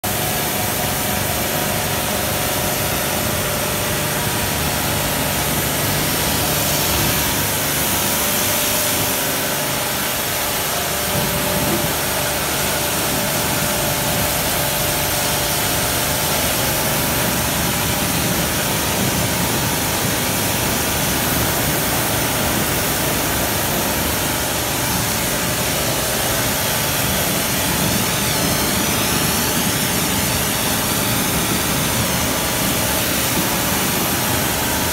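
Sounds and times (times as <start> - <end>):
high-pressure water jet hissing: 0.1 - 34.9
pump motor humming: 0.1 - 34.9.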